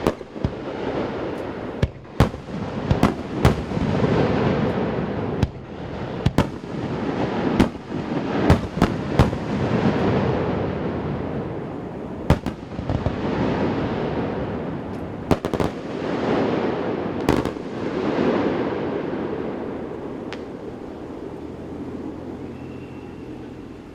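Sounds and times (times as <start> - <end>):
fireworks bursting with sharp bangs: 0.0 - 23.9
rolling echoing booms: 0.0 - 23.9.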